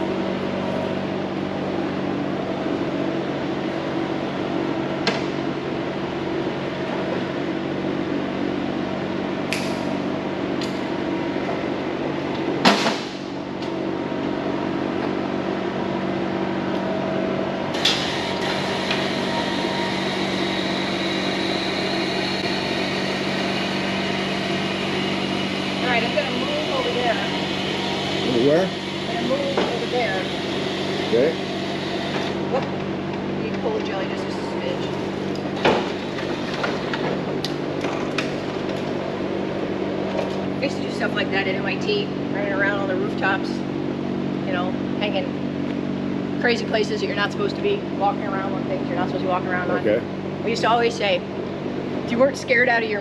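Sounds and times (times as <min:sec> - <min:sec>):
machine humming: 0:00.0 - 0:53.0.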